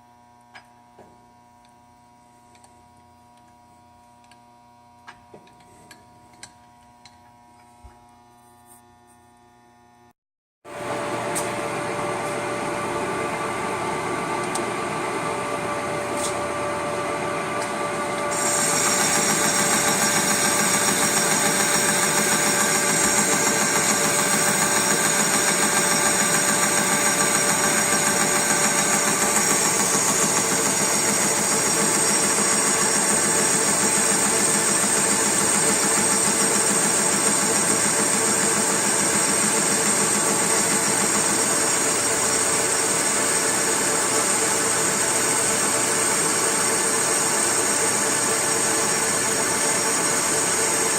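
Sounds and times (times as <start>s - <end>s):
workshop machinery whine and hum: 0.0s - 50.9s.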